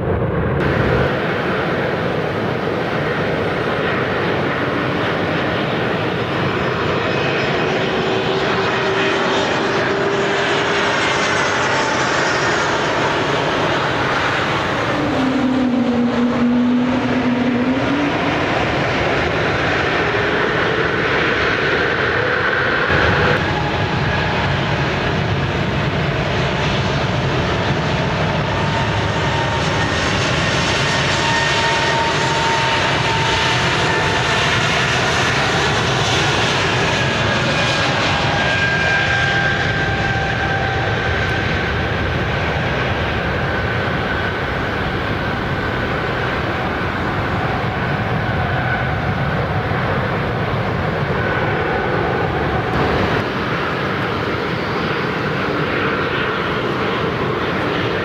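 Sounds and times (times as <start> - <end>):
jet engine rumble and whine: 0.0 - 58.0.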